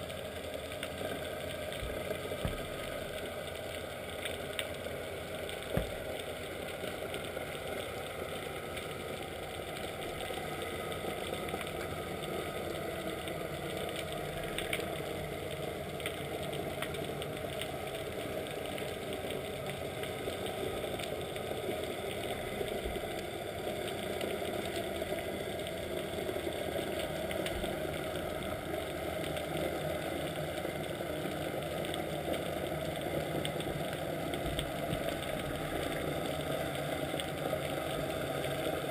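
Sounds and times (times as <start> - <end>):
boat engine drone underwater: 0.0 - 38.9.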